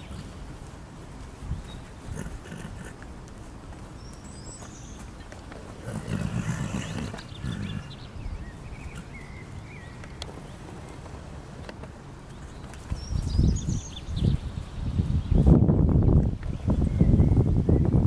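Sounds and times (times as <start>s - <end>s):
small birds chirping: 0.0s - 0.5s, 1.4s - 18.0s
horse hooves thudding on earth: 0.0s - 14.7s.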